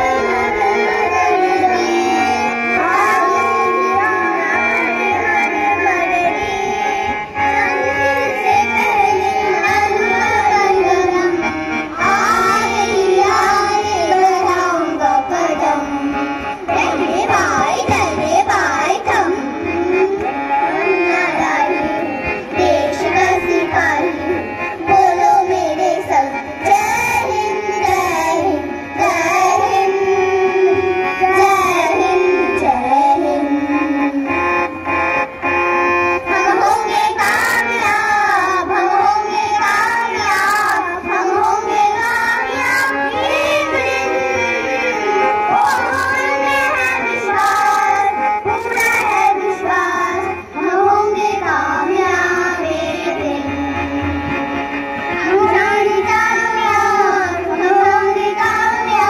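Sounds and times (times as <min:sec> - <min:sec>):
children singing: 0:00.0 - 0:35.2, 0:36.0 - 0:59.0
instrumental accompaniment: 0:00.0 - 0:59.0.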